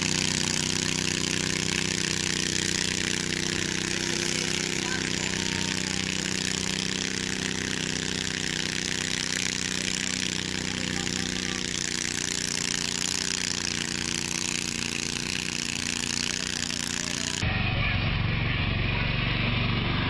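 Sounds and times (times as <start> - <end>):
garden tractor engine under load: 0.0 - 20.0.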